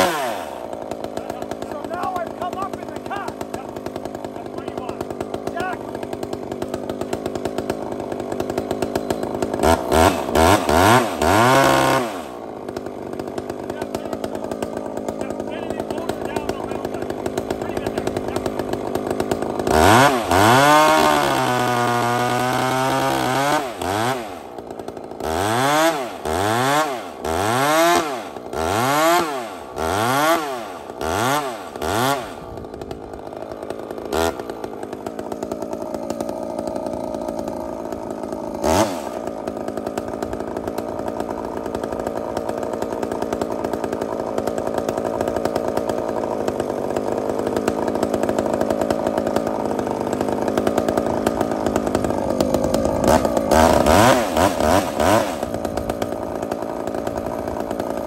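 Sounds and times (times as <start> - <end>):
chainsaw revving and idling: 0.0 - 58.0.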